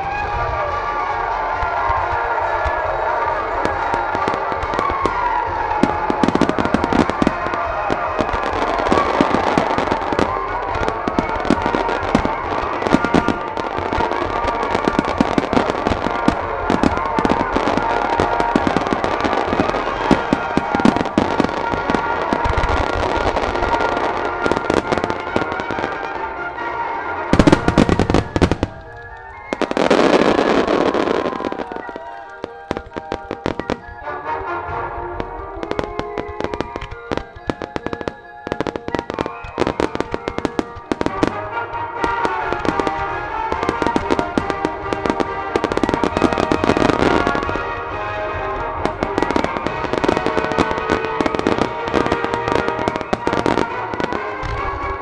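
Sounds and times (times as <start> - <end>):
fireworks bangs: 0.0 - 55.0
music: 0.0 - 55.0.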